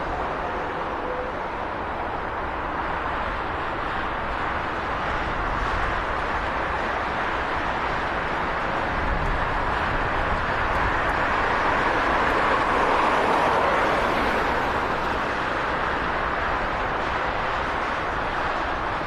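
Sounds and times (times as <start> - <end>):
distant turboprop engine roar: 0.0 - 19.0.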